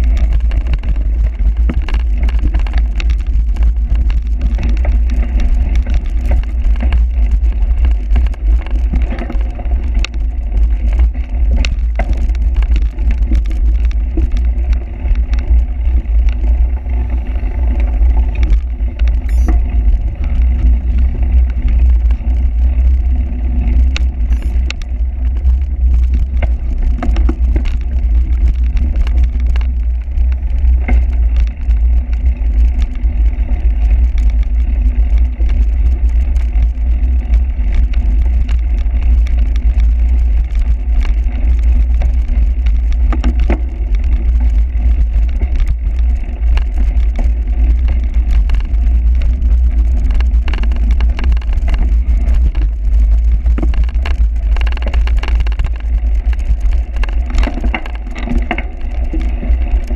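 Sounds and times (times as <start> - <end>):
bike clicks and rattles: 0.0 - 59.9
wind rumble on microphone: 0.0 - 59.9.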